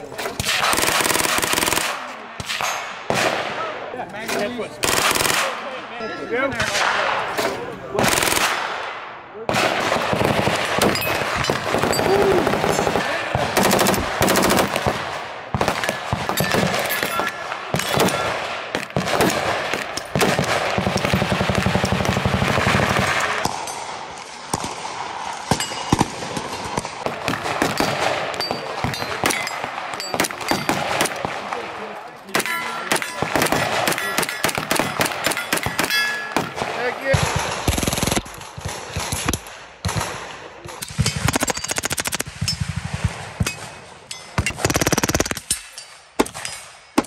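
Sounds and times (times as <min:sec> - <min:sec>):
rapid gunshots: 0:00.3 - 0:03.7, 0:04.4 - 0:05.7, 0:06.6 - 0:43.8, 0:44.5 - 0:45.6.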